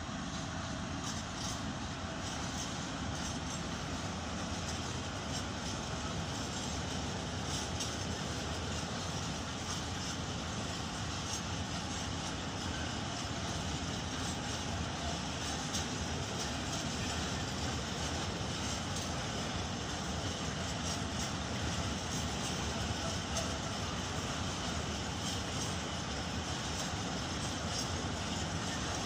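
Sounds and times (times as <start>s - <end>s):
freight train rolling past: 0.0s - 29.0s
wheels clacking: 1.0s - 29.0s.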